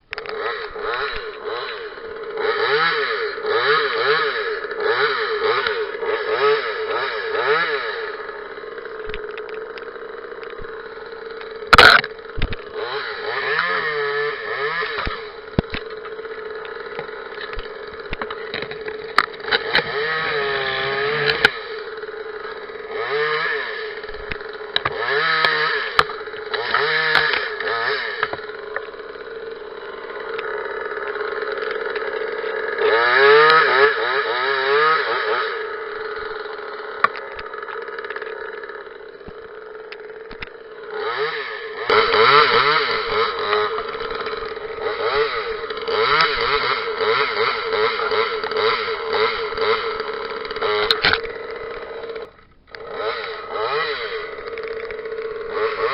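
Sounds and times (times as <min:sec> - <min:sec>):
chainsaw idling and revving: 0:00.0 - 0:55.9.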